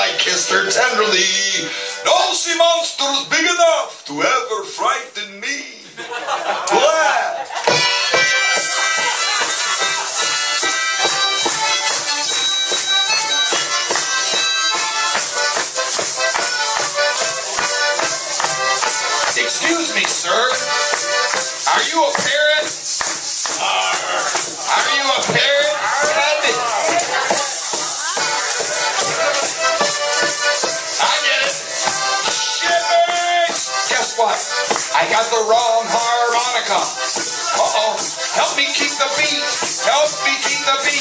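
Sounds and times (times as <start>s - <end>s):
percussion beat: 0.0s - 2.6s, 6.2s - 41.0s
harmonica melody: 0.0s - 4.1s, 7.6s - 41.0s.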